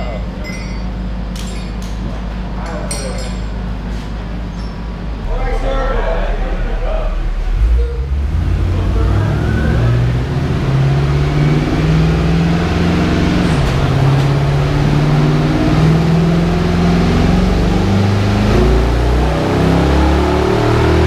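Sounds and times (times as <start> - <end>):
truck engine revving: 3.6 - 21.0.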